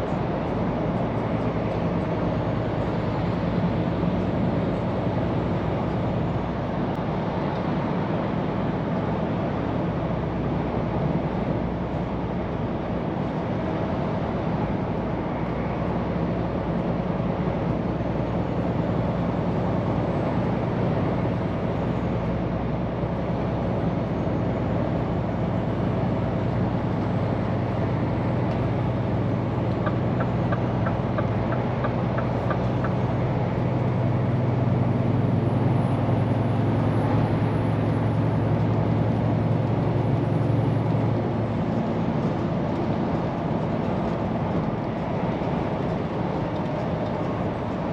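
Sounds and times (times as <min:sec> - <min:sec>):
road noise: 0:00.0 - 0:47.9
truck diesel engine running: 0:08.2 - 0:47.9.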